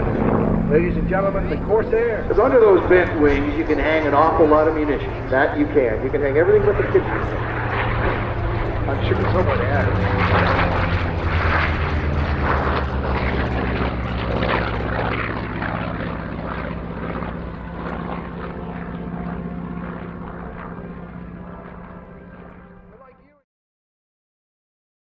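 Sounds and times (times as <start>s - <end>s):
propeller plane engine flying past: 0.0s - 23.4s.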